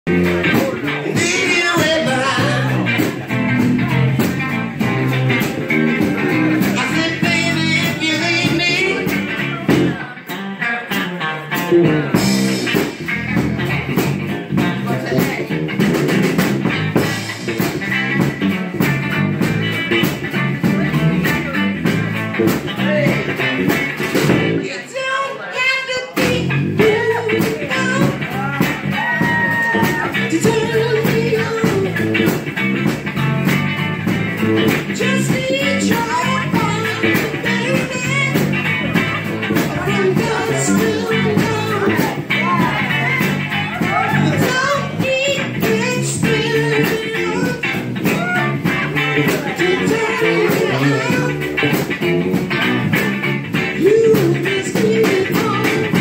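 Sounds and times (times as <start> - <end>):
person singing: 0.1 - 18.3, 24.5 - 32.5, 34.4 - 56.0
electric guitar: 0.1 - 56.0
live blues band: 0.1 - 56.0.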